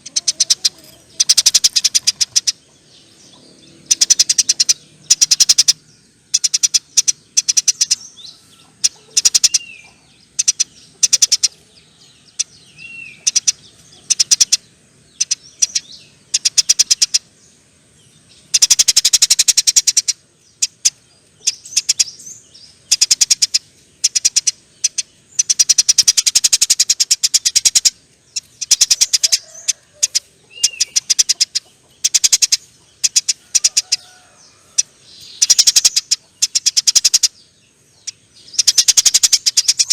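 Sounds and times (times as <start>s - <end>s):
sparrows chattering: 0.0s - 39.9s.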